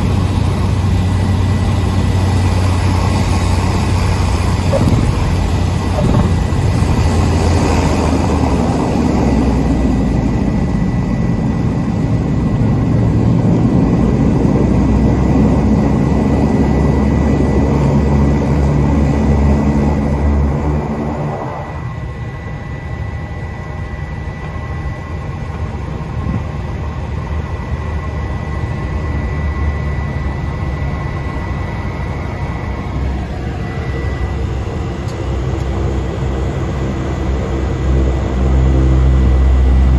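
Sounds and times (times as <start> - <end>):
turboprop engine drone: 0.0 - 39.9.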